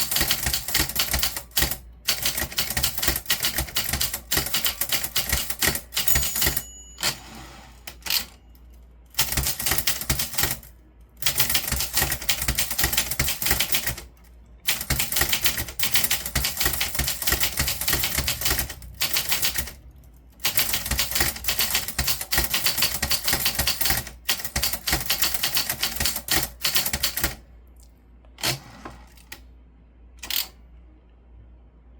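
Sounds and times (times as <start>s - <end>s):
typewriter keys typing: 0.0s - 8.4s, 9.1s - 14.1s, 14.7s - 27.4s.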